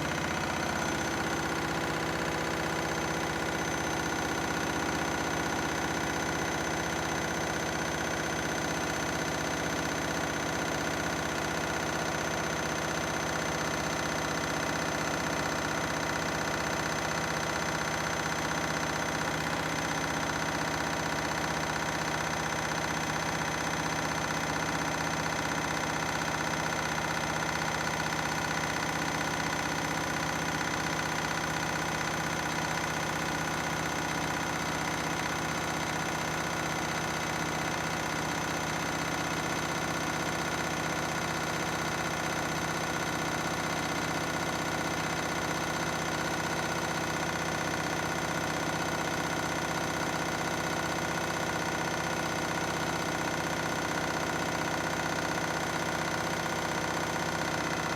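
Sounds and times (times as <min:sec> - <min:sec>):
washing machine spinning: 0:00.0 - 0:57.9.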